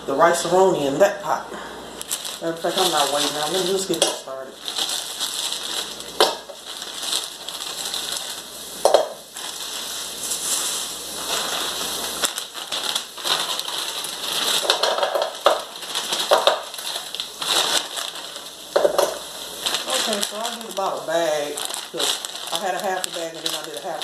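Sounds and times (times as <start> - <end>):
plastic bag crinkling: 2.0 - 24.0
sprouts knocking in a pan: 2.0 - 24.0
vegetables sizzling in hot oil: 2.0 - 24.0.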